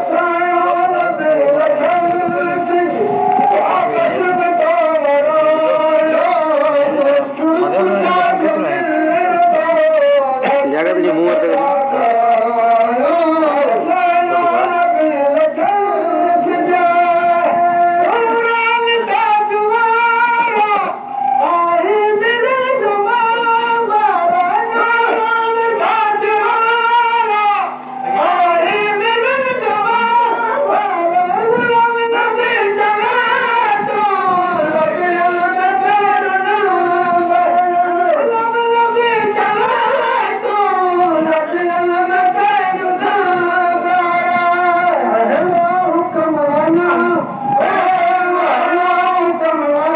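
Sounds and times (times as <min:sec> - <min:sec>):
voices singing devotional song: 0:00.0 - 0:49.9.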